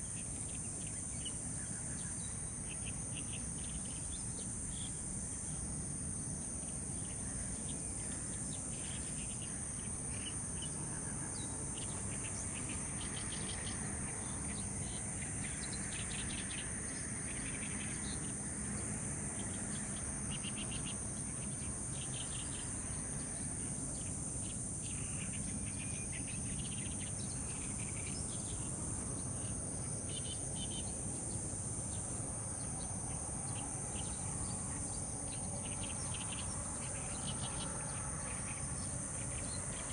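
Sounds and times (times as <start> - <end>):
insects trilling: 0.0 - 39.9
rapid insect chirping: 0.0 - 39.9.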